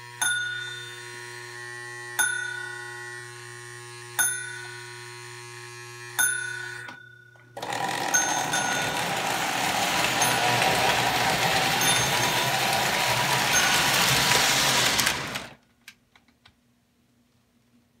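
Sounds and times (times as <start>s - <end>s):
toy train motor whirring: 0.0s - 7.0s, 7.6s - 15.6s.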